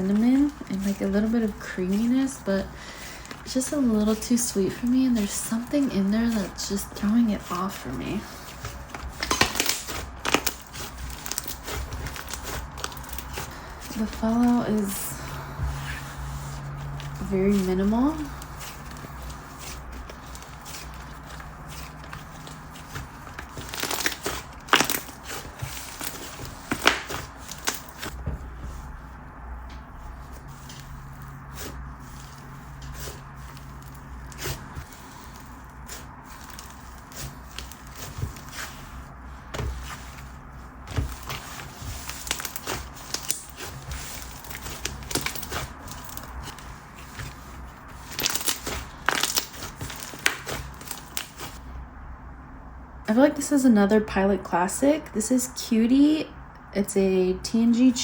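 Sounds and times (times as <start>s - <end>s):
hands squishing slime: 0.0s - 51.6s.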